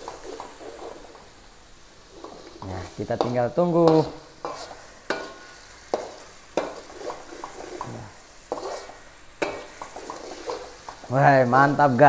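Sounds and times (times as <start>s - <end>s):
metal spatula scraping wok: 0.0s - 1.4s, 2.0s - 12.0s
paste sizzling in oil: 0.0s - 12.0s.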